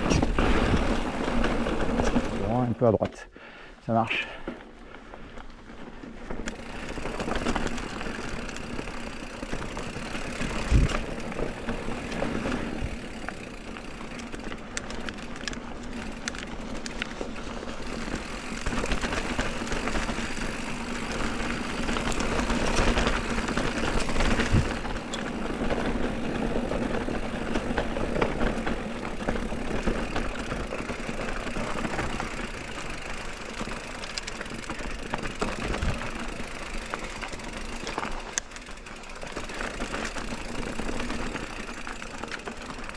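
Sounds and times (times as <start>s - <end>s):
bike rattling: 0.0s - 3.0s, 3.6s - 42.9s
bike rolling over stony track: 0.0s - 3.1s, 4.0s - 42.9s.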